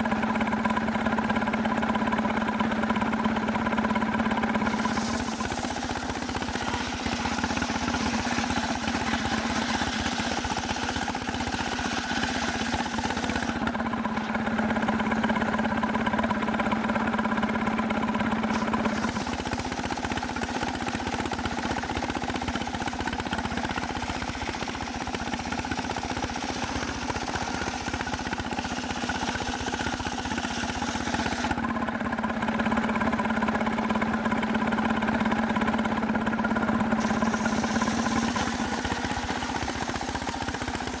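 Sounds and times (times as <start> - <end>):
sawmill engine humming: 0.0 - 41.0.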